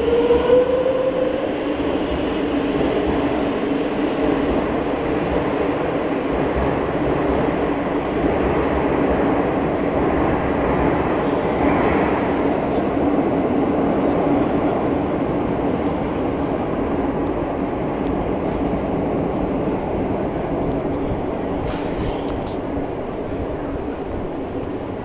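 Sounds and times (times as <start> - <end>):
metro train rumbling: 0.0 - 25.0.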